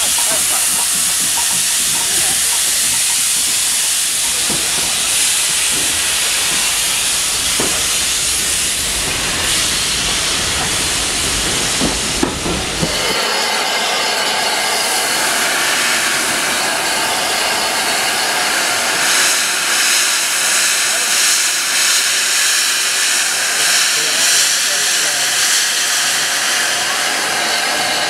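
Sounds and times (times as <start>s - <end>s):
moving train rumble: 0.0s - 28.0s
steam locomotive hissing: 0.0s - 28.0s.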